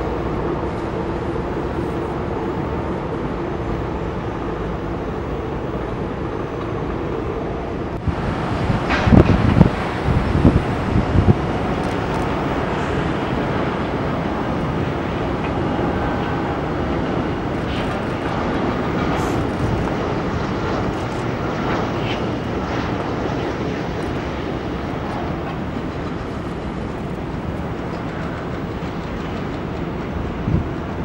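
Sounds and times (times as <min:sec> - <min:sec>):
jet engines droning: 0:00.0 - 0:31.0
wind buffeting microphone: 0:00.0 - 0:31.0.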